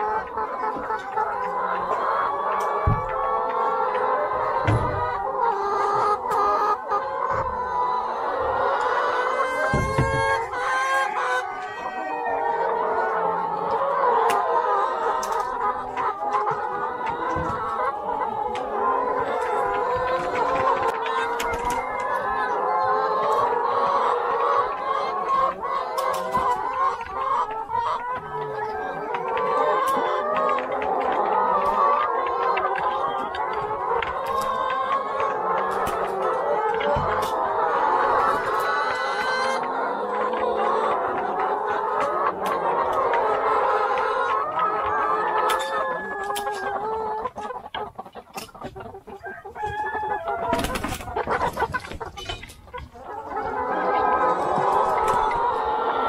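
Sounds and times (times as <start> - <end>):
hens clucking and calling: 0.0 - 56.0.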